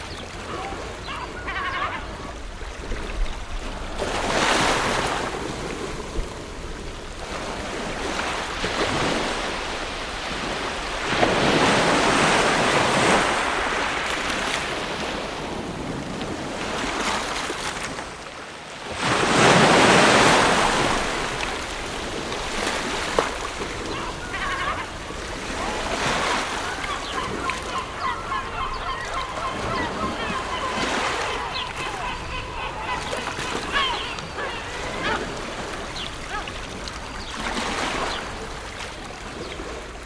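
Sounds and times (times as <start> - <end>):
ocean waves washing on shore: 0.0 - 40.0.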